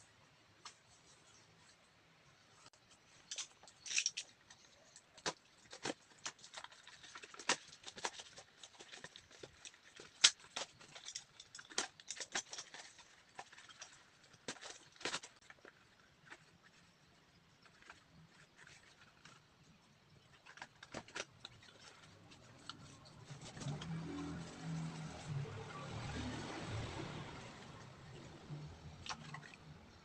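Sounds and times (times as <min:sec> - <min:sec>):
handling clicks and rustles: 0:00.4 - 0:30.0.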